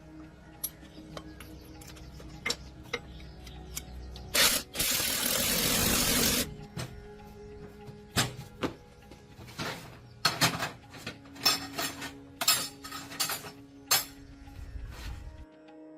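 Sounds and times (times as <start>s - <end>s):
faint background music: 0.0s - 15.9s.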